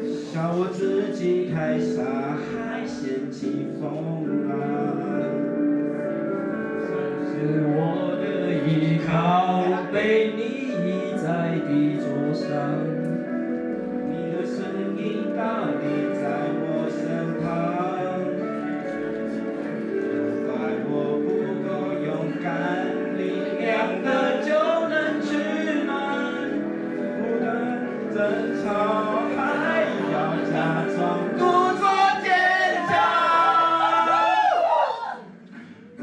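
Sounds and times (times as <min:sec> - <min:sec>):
man singing into a microphone: 0:00.0 - 0:34.8
karaoke backing track: 0:00.0 - 0:36.0.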